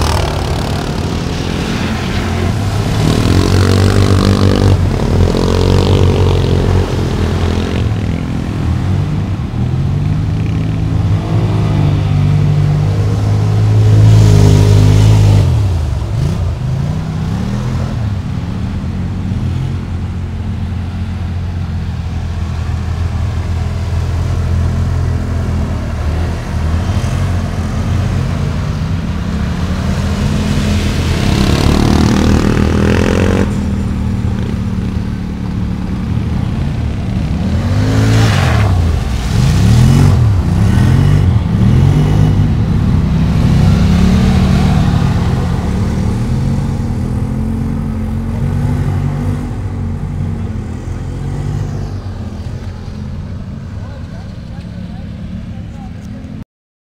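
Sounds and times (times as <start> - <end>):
quad bike engine revving: 0.0 - 17.9, 23.4 - 51.9
water splashing: 0.0 - 55.6.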